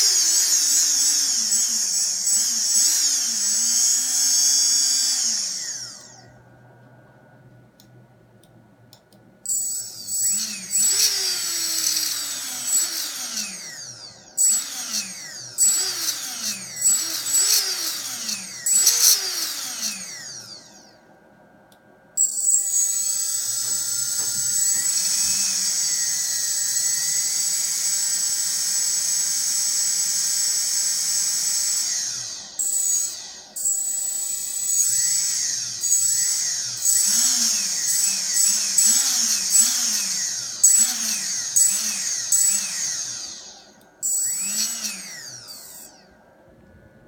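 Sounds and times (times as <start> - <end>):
drone motor whining: 0.0 - 6.4, 9.5 - 21.1, 22.2 - 46.2.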